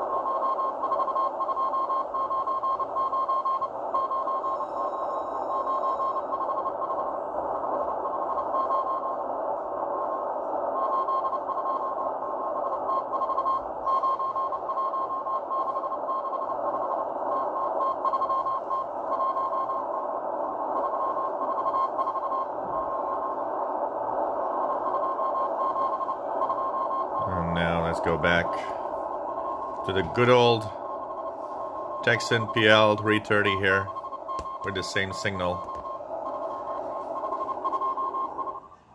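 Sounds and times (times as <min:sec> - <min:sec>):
morse code beeps: 0:00.0 - 0:09.3, 0:10.7 - 0:38.7
shortwave static hiss: 0:00.0 - 0:38.9.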